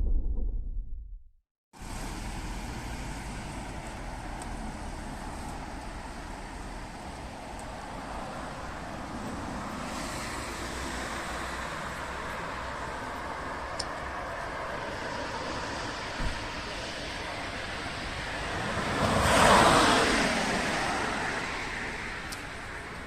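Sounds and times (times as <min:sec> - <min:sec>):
passing road vehicles: 0:01.8 - 0:23.0.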